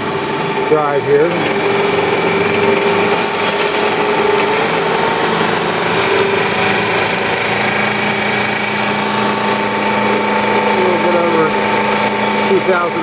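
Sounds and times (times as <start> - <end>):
drill press motor humming: 0.0 - 13.0.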